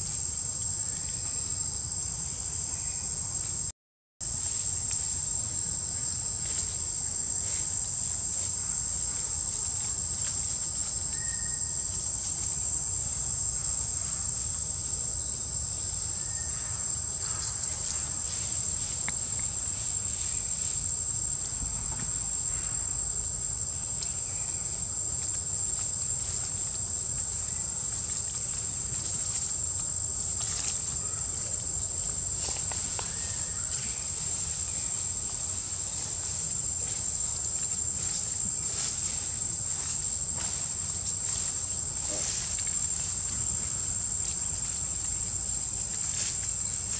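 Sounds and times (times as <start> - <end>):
insect chorus: 0.0 - 46.9.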